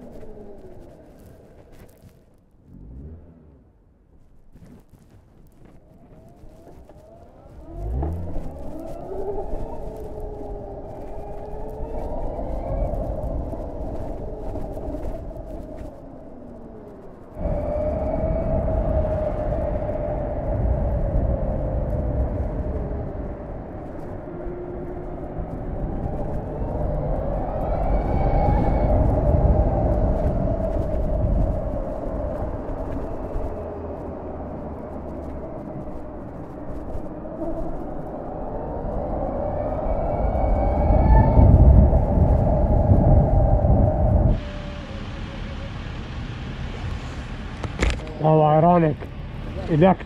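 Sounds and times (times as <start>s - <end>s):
low rumble: 0.0s - 50.0s
wind and road rush: 0.0s - 50.0s
electric motorcycle whine: 6.0s - 46.9s.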